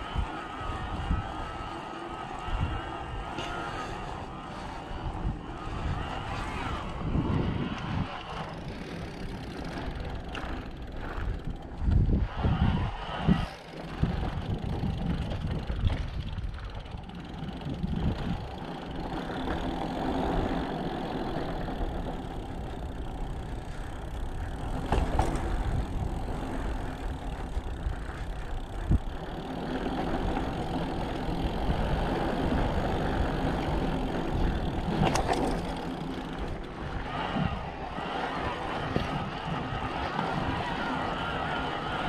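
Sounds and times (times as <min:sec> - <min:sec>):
wind on microphone: 0:00.0 - 0:19.6, 0:21.4 - 0:42.0.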